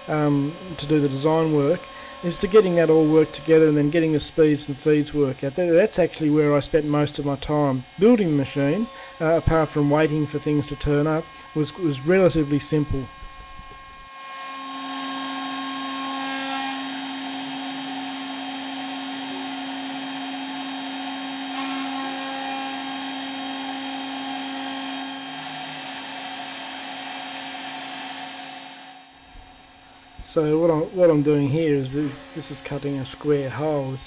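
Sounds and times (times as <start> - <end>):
milling spindle whining: 0.0 - 34.0.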